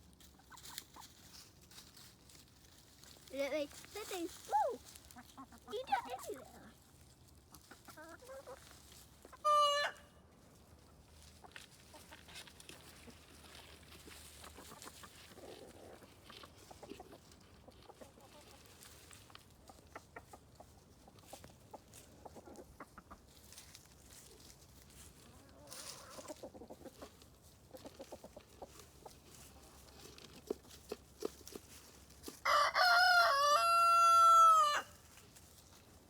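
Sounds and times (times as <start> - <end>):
chickens clucking: 0.1 - 36.0.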